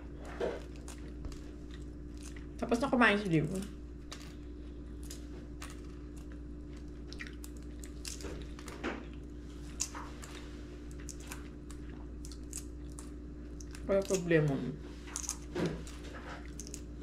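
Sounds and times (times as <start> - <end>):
person chewing food: 0.0 - 2.6, 3.9 - 14.2, 14.8 - 17.0
steady low hum: 0.0 - 17.0.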